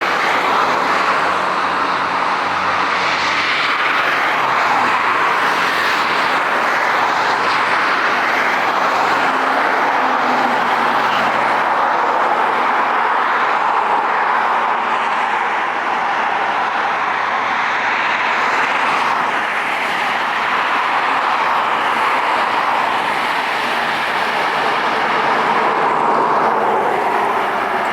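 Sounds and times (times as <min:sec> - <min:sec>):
jet airliner engines running: 0:00.0 - 0:27.9.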